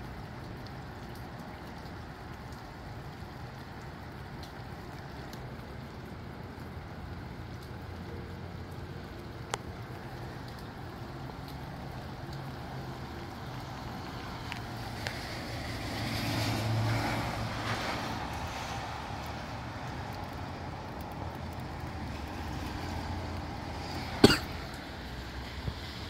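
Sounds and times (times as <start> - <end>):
rain: 0.0 - 26.0
raindrop ticks: 0.0 - 26.0
wind: 0.0 - 26.0.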